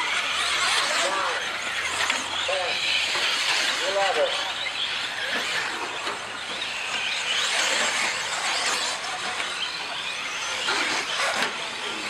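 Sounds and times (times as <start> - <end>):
rc truck motors whining: 0.0 - 12.0
tyres on dirt: 0.0 - 12.0.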